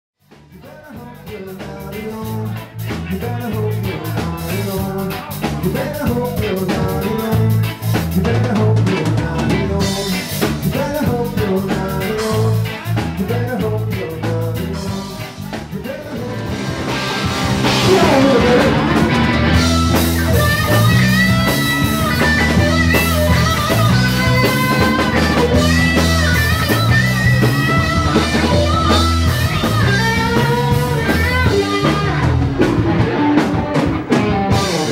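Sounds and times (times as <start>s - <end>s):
rock band playing live: 0.2s - 34.9s
sustained lead guitar line: 0.4s - 34.9s.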